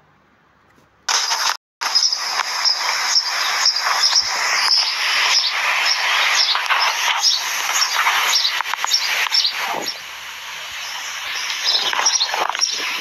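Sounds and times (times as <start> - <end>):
steady rushing noise: 1.1 - 13.0
birds chirping: 1.3 - 13.0.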